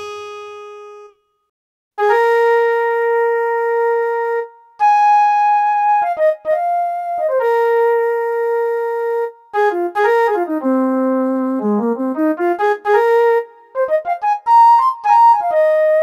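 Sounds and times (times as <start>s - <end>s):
synthesizer flute melody: 2.0s - 16.0s.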